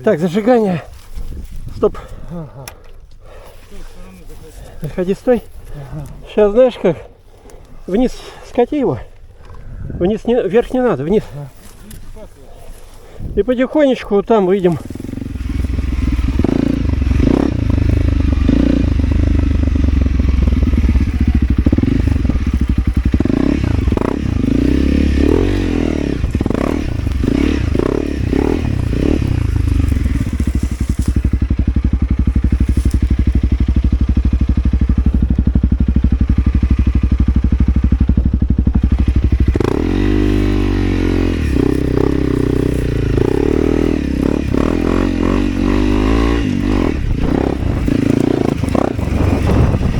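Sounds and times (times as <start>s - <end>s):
off-road motorcycle engine: 0.0s - 49.9s.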